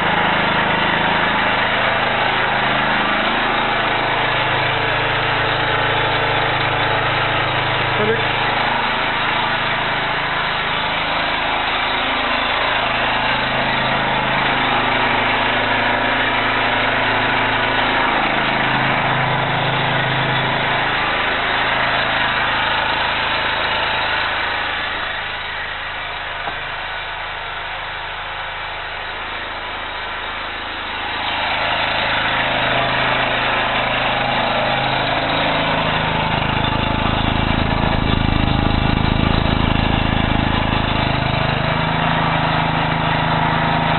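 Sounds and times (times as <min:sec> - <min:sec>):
small generator engine running: 0:00.0 - 0:43.9.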